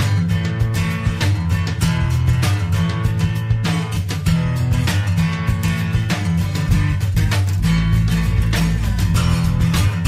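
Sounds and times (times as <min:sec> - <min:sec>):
strummed guitar music with beat: 0:00.0 - 0:10.0.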